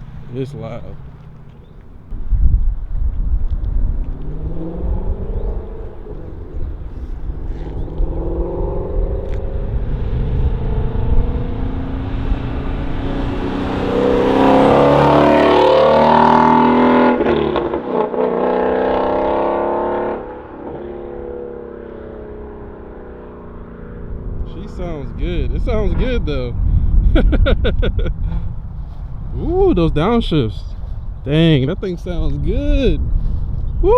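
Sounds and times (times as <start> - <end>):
car exhaust driving by: 0.0 - 33.9.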